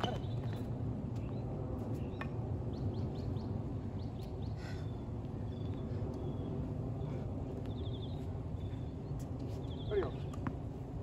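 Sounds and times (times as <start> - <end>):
birds chirping: 0.0 - 11.0
low background rumble: 0.0 - 11.0.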